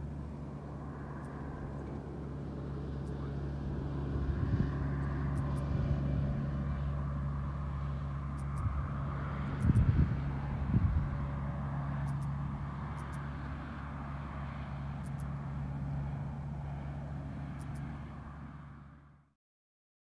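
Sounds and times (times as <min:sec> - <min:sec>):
engine humming: 0:00.0 - 0:19.3.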